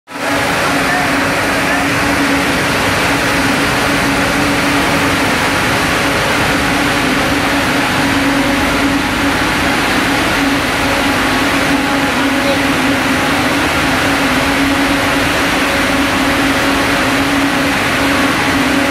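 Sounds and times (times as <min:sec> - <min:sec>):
constant low hum: 0:00.2 - 0:18.9
spinning machines whirring: 0:00.2 - 0:18.9.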